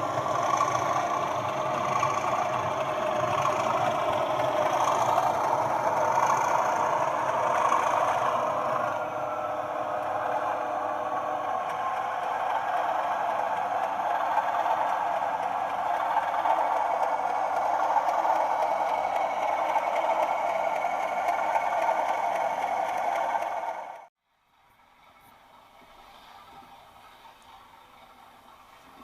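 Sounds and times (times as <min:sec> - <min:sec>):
model train rattling on track: 0:00.0 - 0:24.1
tinny locomotive engine drone: 0:00.0 - 0:24.1.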